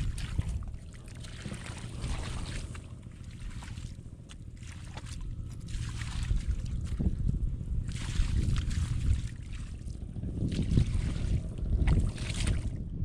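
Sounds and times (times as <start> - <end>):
water sloshing and splashing: 0.0 - 13.0
wind rumble on microphone: 0.0 - 13.0.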